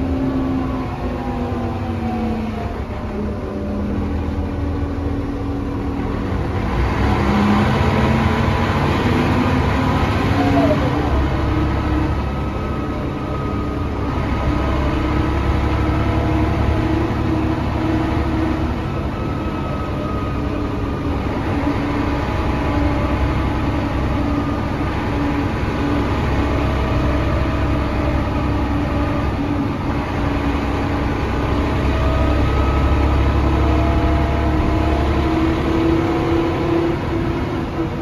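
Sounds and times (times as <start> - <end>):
bus diesel engine rumbling: 0.0 - 38.0.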